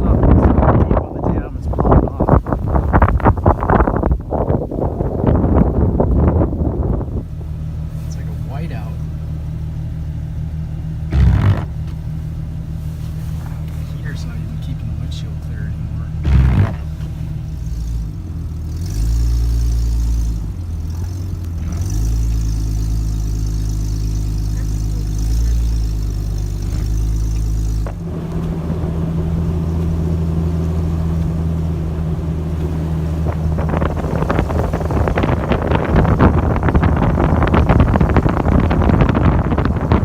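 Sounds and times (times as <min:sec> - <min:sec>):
wind noise on microphone: 0:00.0 - 0:08.8, 0:11.1 - 0:12.0, 0:15.5 - 0:40.0
car engine under load: 0:00.0 - 0:40.0.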